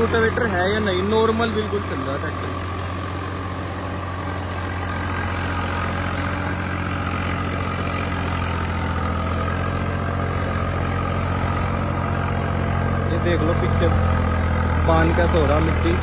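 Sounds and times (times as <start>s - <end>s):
diesel tractor engine running: 0.0s - 16.0s.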